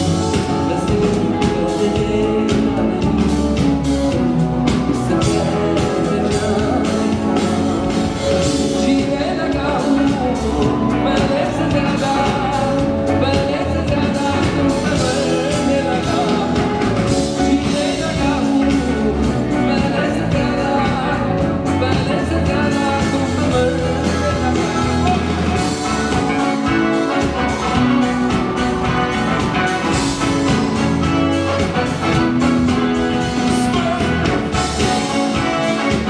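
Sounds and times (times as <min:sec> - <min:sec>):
man singing into a microphone: 0:00.0 - 0:27.9, 0:29.7 - 0:36.0
live band playing: 0:00.0 - 0:36.0.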